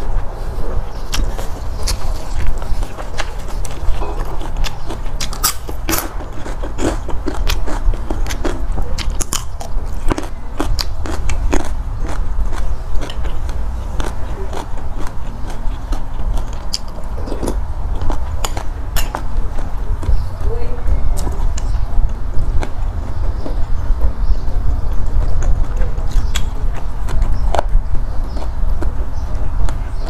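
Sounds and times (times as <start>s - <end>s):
low rumble: 0.0s - 30.0s
person chewing crunchy food: 0.0s - 30.0s.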